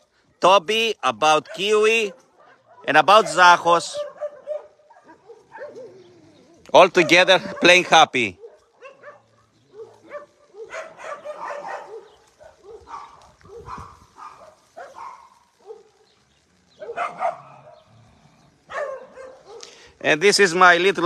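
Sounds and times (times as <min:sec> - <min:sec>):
dogs barking: 0:01.4 - 0:20.0.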